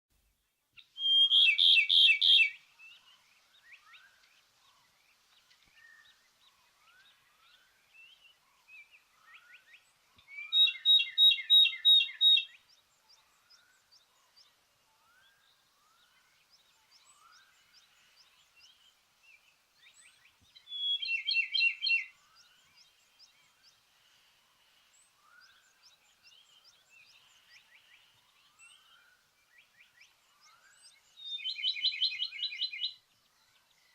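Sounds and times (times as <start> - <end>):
other birds chirping: 0.8 - 33.9
robin singing: 0.8 - 33.9.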